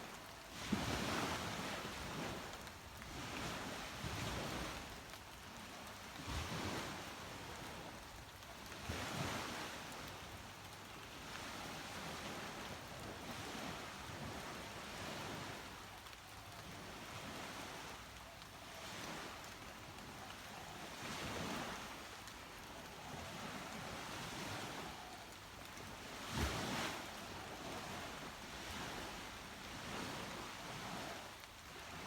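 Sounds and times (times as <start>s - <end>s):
waves breaking on beach: 0.0s - 32.0s.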